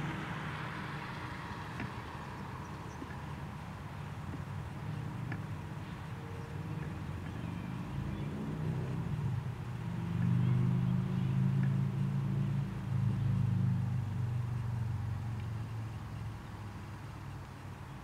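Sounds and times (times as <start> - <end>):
distant engine rumble: 0.0 - 18.0.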